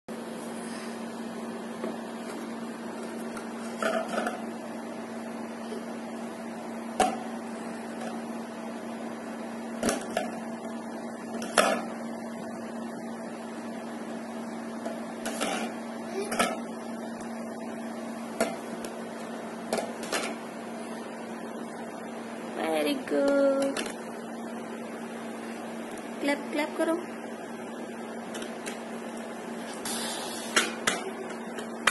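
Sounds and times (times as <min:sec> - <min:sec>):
steady low hum: 0:00.1 - 0:31.9.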